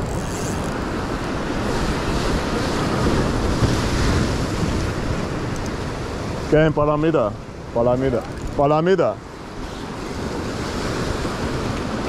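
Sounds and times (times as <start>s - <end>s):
surf washing against rocks: 0.0s - 12.0s
wind rumbling on microphone: 0.0s - 12.0s.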